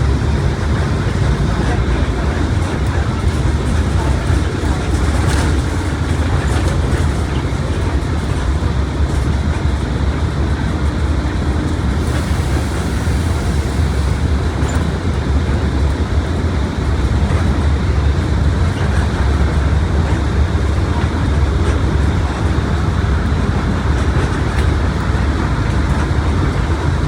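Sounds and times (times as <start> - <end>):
bus engine drone: 0.0 - 27.0
rolling road noise: 0.0 - 27.0.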